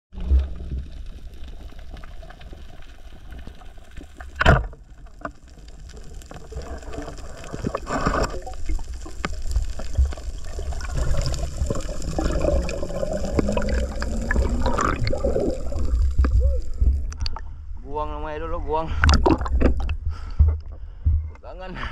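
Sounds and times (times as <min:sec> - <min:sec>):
underwater bubbling water: 0:00.1 - 0:17.8, 0:19.0 - 0:20.9.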